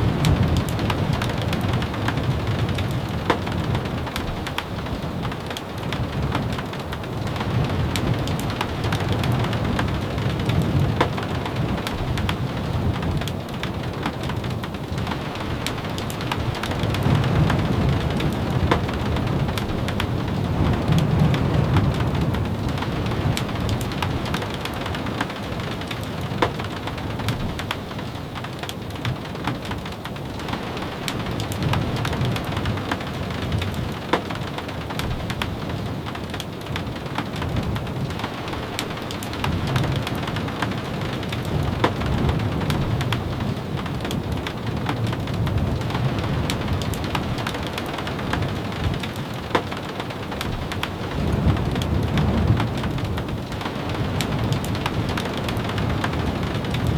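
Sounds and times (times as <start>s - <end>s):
steady rain with drop clicks: 0.0s - 56.9s.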